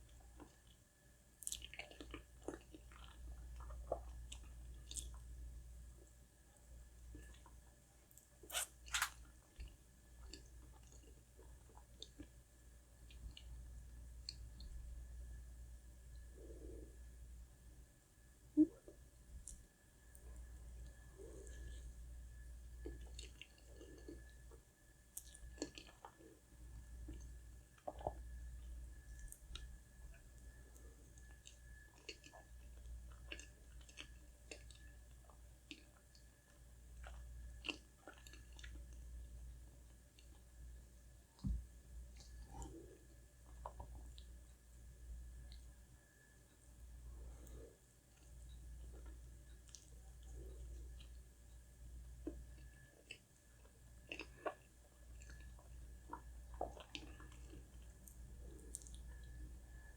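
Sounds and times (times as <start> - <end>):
chewing soft cake: 0.0 - 59.9.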